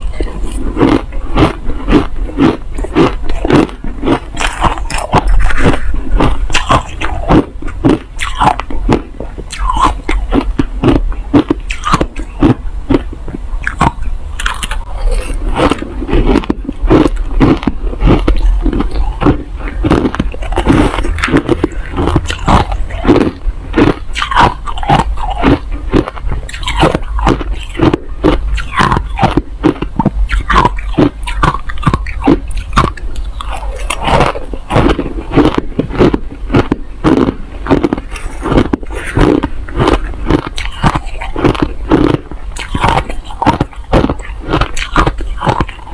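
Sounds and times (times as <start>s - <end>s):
chewing crushed ice: 0.1s - 45.9s.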